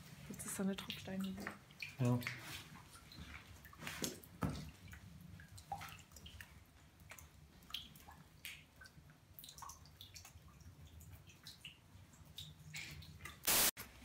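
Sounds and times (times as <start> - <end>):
water dripping: 0.2 - 13.5.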